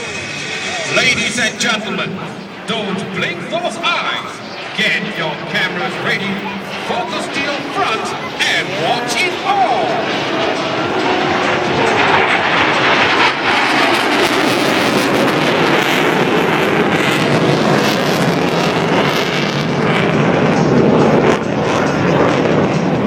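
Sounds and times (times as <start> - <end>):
loud jet engine: 0.0 - 23.0.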